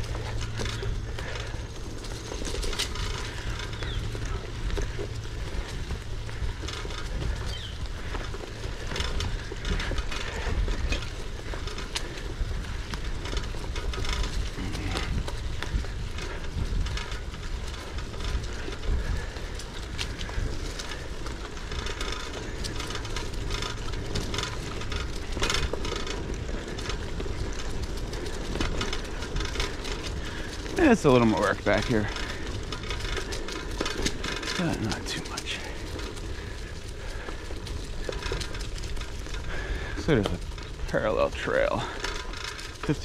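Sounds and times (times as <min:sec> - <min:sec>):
bicycle tyres on bumpy dirt: 0:00.0 - 0:43.0
bike rattles and clicks: 0:00.0 - 0:43.0.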